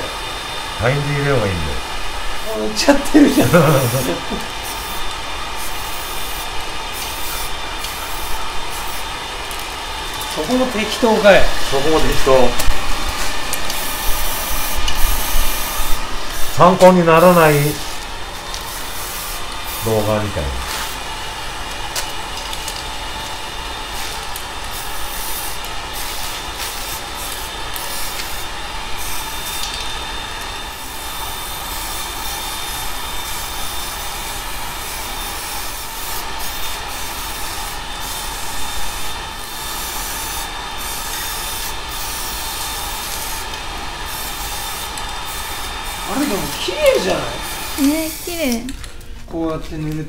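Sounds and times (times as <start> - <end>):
spray paint can hissing: 2.4 - 48.8.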